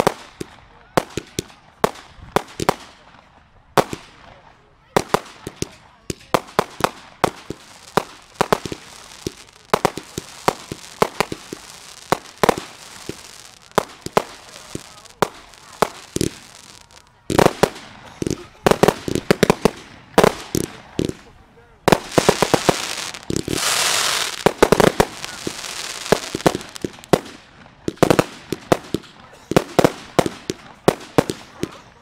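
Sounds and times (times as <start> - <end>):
fireworks bursting: 0.0 - 4.4, 5.0 - 32.0.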